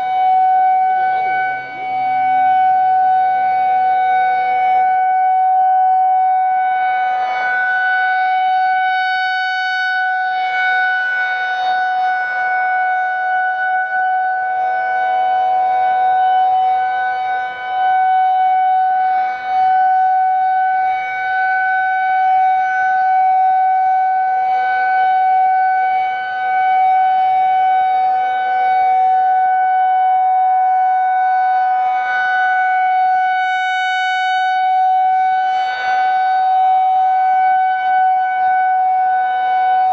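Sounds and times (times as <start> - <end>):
distant siren: 0.0 - 39.9
rotating warning siren: 0.0 - 39.9.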